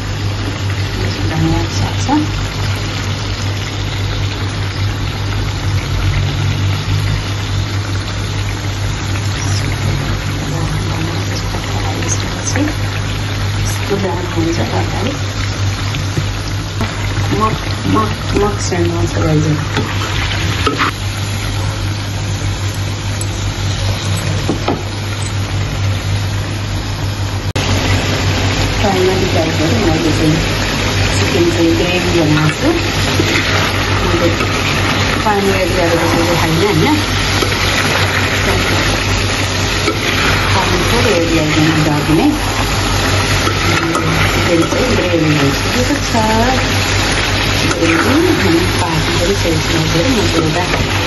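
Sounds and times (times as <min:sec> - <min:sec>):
constant low hum: 0:00.0 - 0:51.0
curry sizzling in a pan: 0:00.0 - 0:51.0
gas stove burner hissing: 0:00.0 - 0:51.0.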